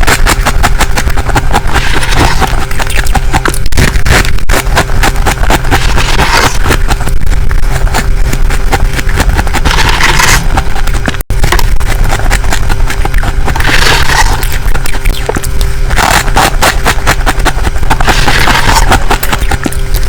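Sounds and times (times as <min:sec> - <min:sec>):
frost crunching: 0:00.0 - 0:20.0
low steady hum: 0:00.0 - 0:20.0.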